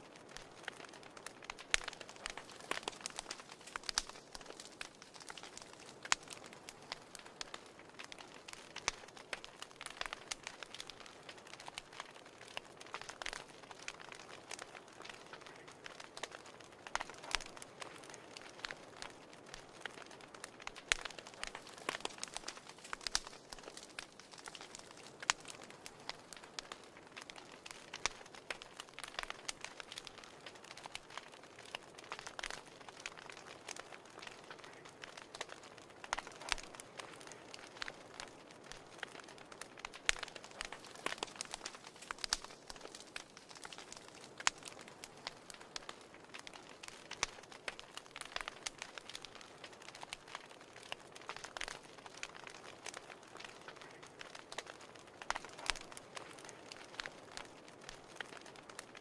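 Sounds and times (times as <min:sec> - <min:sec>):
fire pops and snaps: 0:00.0 - 0:59.0
wood fire crackling: 0:00.0 - 0:59.0.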